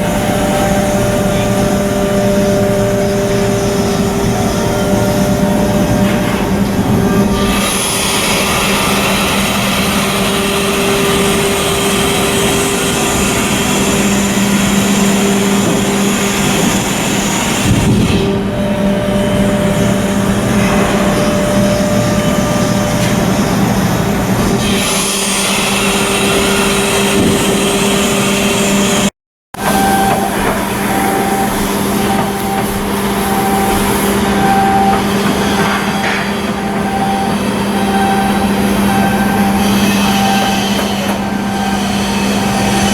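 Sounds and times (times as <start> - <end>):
heavy machinery running: 0.0 - 42.9.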